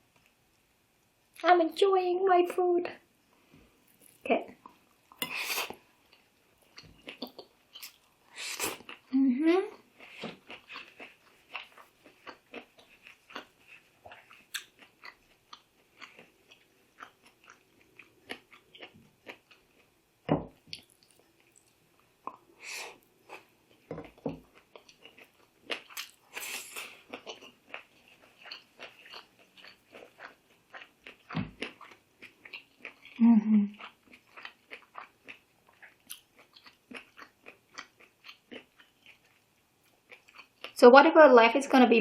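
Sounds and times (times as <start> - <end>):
chewing and crunching food: 3.3 - 40.8.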